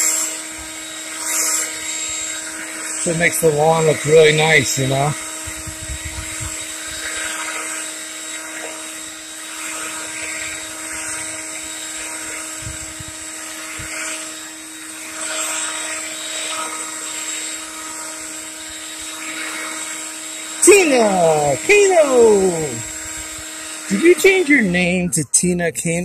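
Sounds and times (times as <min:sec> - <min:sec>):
leaf blower running: 0:00.0 - 0:26.0.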